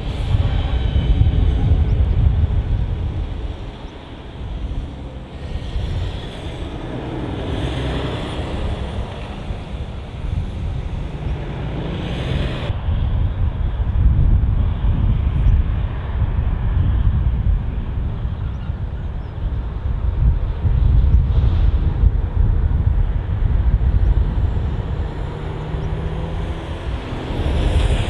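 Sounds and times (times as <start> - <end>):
jet engines rumbling: 0.0 - 28.0
wind buffeting microphone: 0.0 - 28.0.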